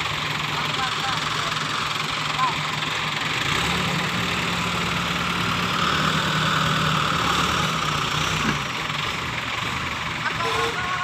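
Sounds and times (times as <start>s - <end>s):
vehicle engine idling low: 0.0s - 11.0s.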